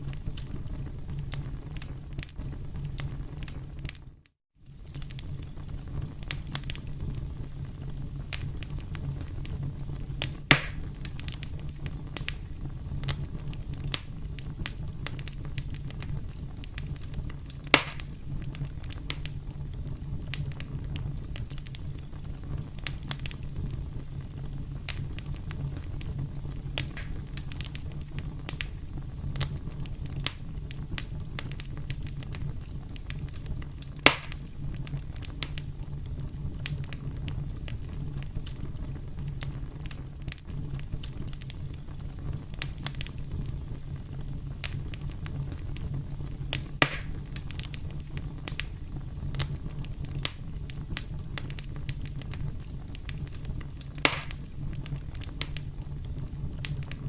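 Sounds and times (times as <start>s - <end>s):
campfire crackling: 0.0s - 57.0s
loud fire pops: 0.0s - 57.0s
low rumble of flames: 0.0s - 57.0s.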